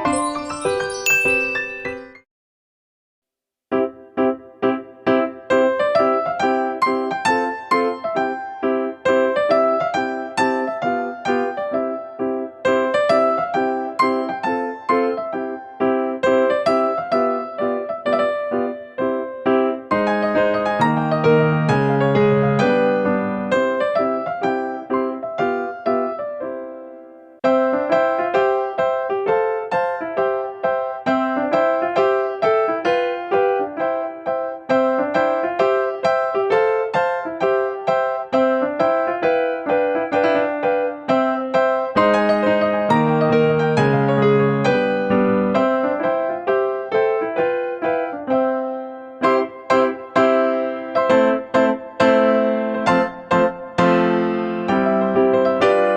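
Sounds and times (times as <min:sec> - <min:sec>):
piano chord: 0:00.0 - 0:02.2, 0:03.7 - 0:55.9.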